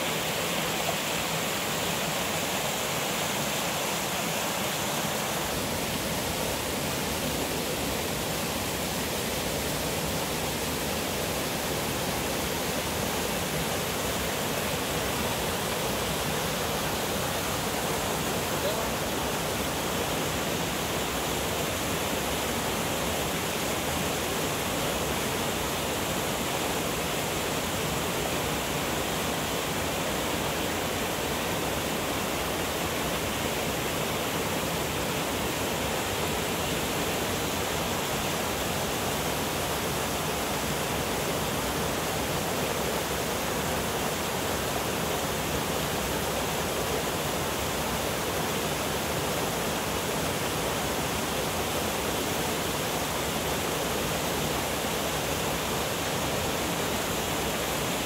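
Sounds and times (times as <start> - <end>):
stream cascading over rocks: 0.0 - 58.0.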